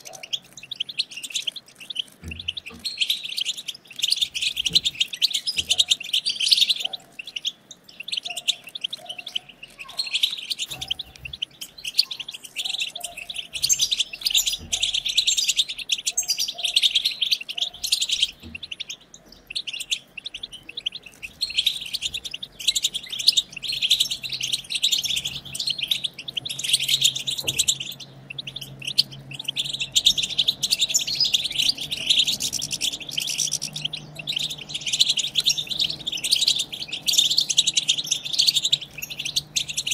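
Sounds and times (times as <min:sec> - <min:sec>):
finches chattering and twittering: 0:00.0 - 0:39.9.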